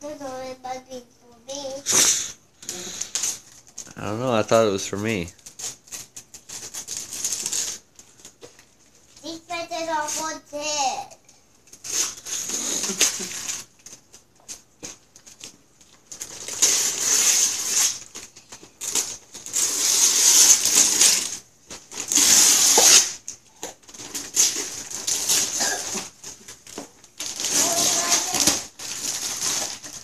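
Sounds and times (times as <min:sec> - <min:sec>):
wrapping paper tearing: 0:01.8 - 0:08.4, 0:11.7 - 0:30.0
paper crackling and rustling: 0:02.7 - 0:09.2, 0:11.6 - 0:30.0.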